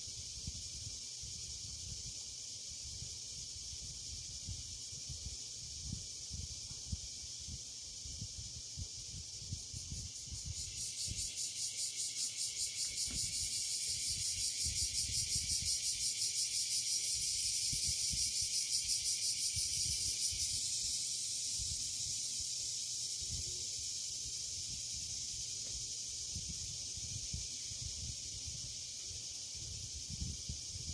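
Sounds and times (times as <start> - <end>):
cicadas buzzing: 0.0 - 30.9.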